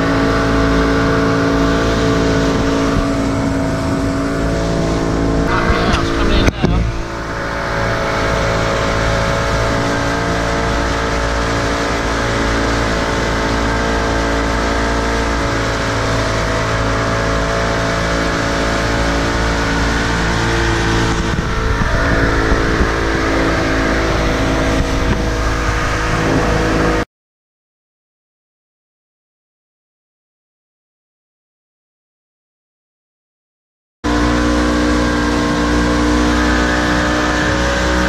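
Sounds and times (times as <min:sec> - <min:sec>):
outboard motor running: 0:00.0 - 0:27.0, 0:34.1 - 0:38.0
water churning in wake: 0:00.0 - 0:27.0, 0:34.0 - 0:38.0.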